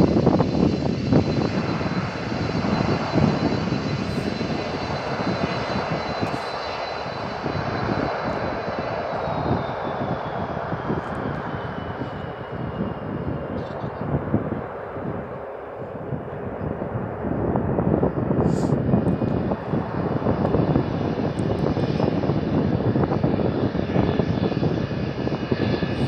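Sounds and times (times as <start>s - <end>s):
aircraft engines whining: 0.0s - 26.0s.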